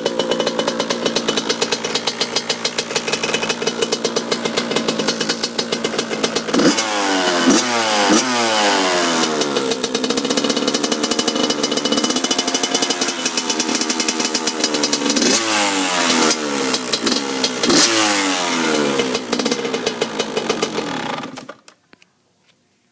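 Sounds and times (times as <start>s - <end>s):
two-stroke engine idling and revving: 0.0s - 21.7s.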